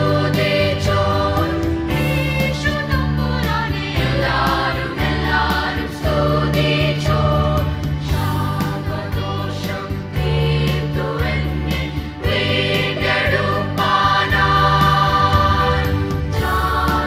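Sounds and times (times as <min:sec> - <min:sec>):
children's choir singing a carol: 0:00.0 - 0:17.0.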